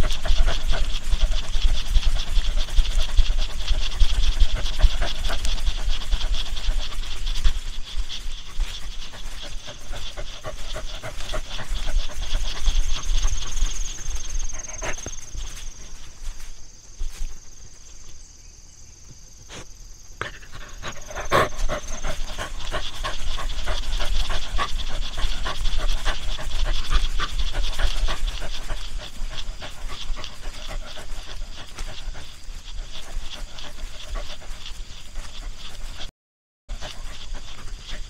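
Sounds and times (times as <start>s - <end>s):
dog panting: 0.0s - 18.0s, 19.4s - 36.1s, 36.7s - 38.0s.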